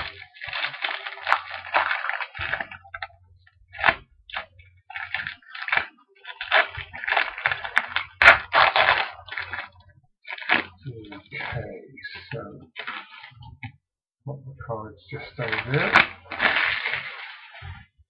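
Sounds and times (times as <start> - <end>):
foil wrapper crinkling and tearing: 0.0 - 13.5, 15.2 - 17.9.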